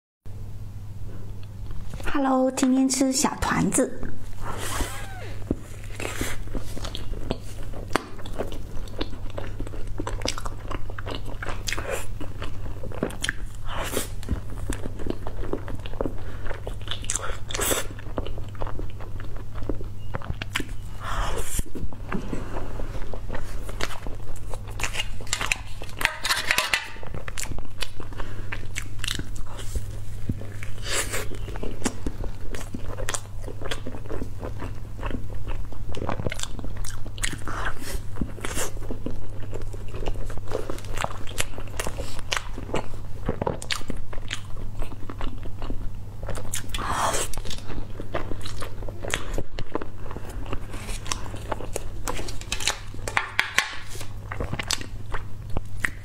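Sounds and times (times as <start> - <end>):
steady low hum: 0.3 - 56.0
biting and chewing soft cake: 4.3 - 56.0.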